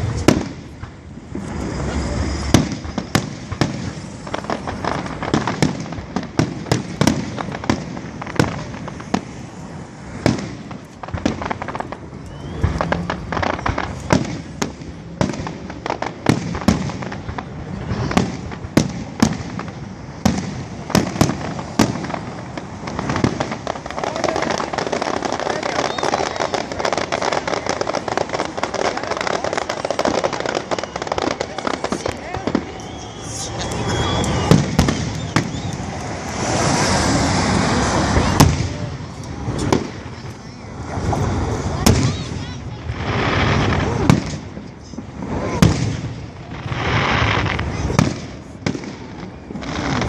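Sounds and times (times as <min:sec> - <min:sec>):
fireworks bangs: 0:00.0 - 0:50.0.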